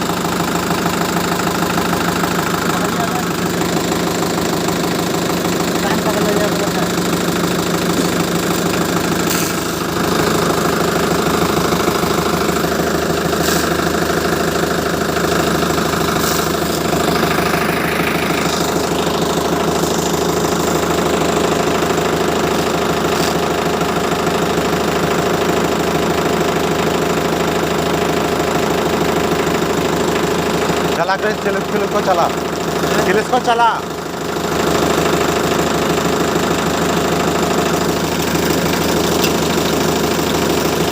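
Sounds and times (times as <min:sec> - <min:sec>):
diesel tractor engine idling: 0:00.0 - 0:40.9.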